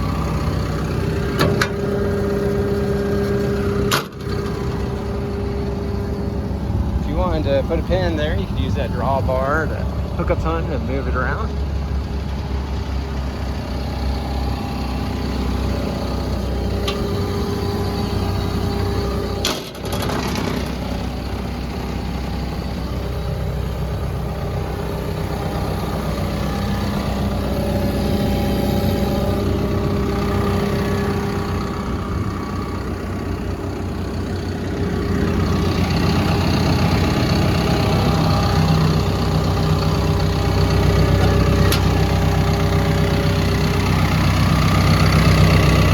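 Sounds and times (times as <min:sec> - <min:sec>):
bulldozer diesel engine idling: 0:00.0 - 0:45.9.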